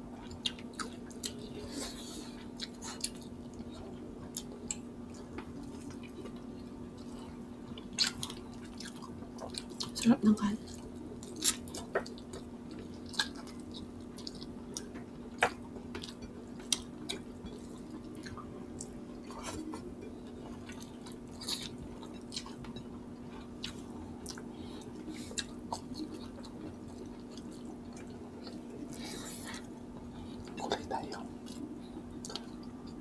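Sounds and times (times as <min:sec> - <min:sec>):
people chewing: 0:00.2 - 0:33.0.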